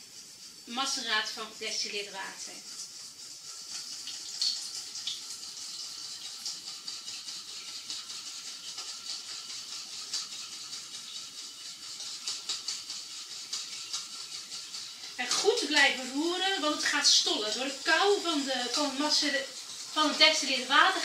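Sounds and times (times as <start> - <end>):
spoon stirring in metal bowl: 0.0 - 21.0.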